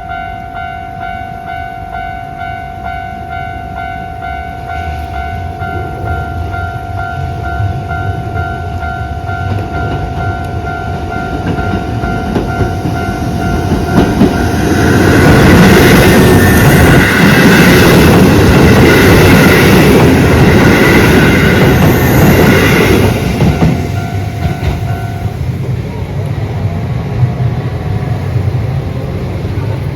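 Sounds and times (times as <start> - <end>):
level crossing warning bell: 0.0 - 25.4
train passing loudly: 0.0 - 29.9.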